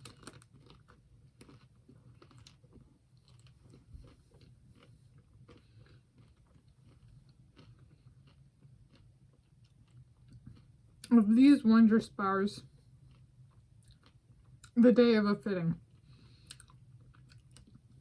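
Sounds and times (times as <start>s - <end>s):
biting and chewing ice cream bar: 0.0s - 11.2s, 12.7s - 14.8s, 15.8s - 18.0s.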